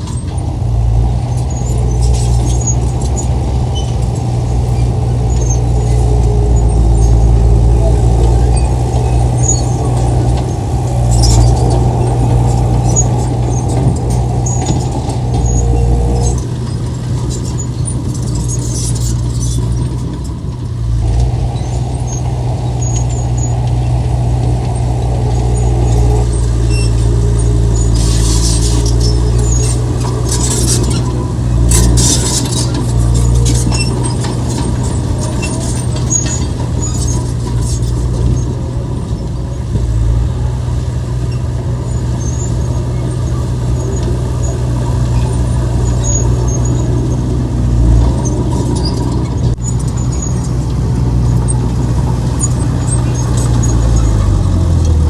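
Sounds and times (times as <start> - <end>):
heavy diesel machinery engine: 0.0 - 55.0
metallic squealing and clatter: 0.0 - 55.0.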